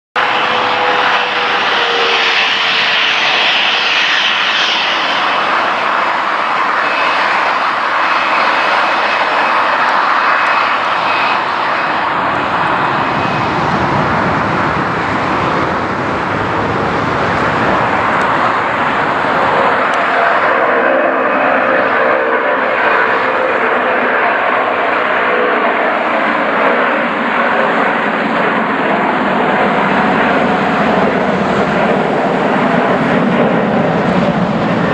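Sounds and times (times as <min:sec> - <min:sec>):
faint high jet whine: 0:00.2 - 0:34.9
jet engines roaring: 0:00.2 - 0:34.9.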